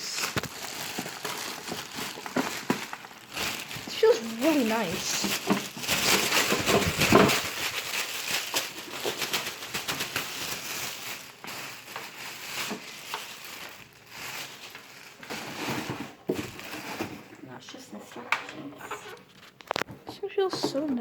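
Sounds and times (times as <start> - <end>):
packaging crinkling: 0.0 - 17.4, 18.8 - 19.9.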